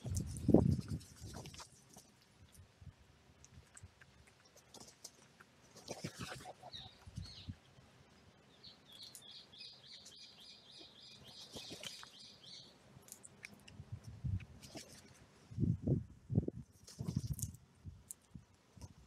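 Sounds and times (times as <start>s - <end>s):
crows pecking at food: 0.0s - 7.4s, 8.9s - 12.2s, 13.0s - 15.3s, 16.7s - 19.0s.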